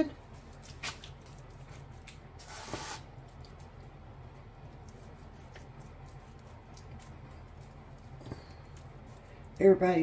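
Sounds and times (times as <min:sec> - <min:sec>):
hand rubbing meat: 0:00.2 - 0:10.0.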